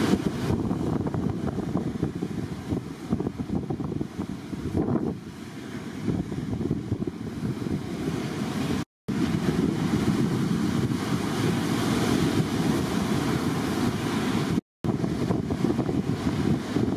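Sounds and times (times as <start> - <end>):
breaking surf: 0.0 - 16.9
wind buffeting microphone: 0.0 - 16.9.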